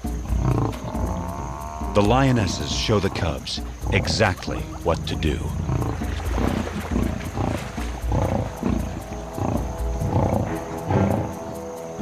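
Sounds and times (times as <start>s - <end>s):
background music: 0.0s - 12.0s
lions growling: 0.0s - 12.0s.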